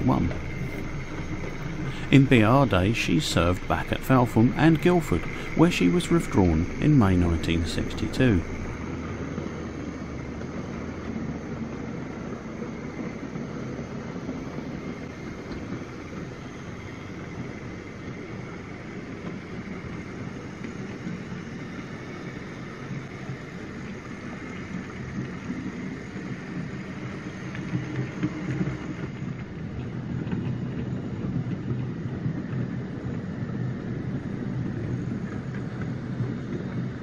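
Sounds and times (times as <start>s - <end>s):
model train wheels rumbling on rail: 0.0s - 37.0s
motor hum: 0.0s - 37.0s.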